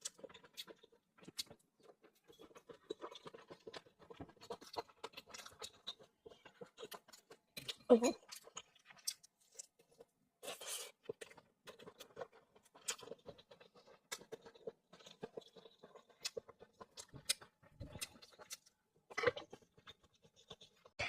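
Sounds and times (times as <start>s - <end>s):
wet chewing and mouth smacks: 0.0s - 21.0s.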